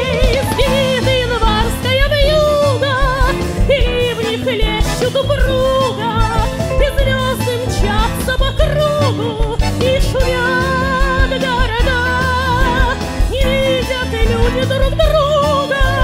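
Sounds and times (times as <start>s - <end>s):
accordion: 0.0s - 16.0s
double bass: 0.0s - 16.0s
drums: 0.0s - 16.0s
woman singing with vibrato: 0.0s - 16.0s.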